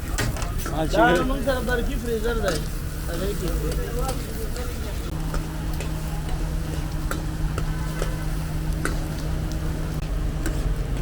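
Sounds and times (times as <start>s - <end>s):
frying sizzle: 0.0s - 11.0s
steady low hum: 0.9s - 11.0s.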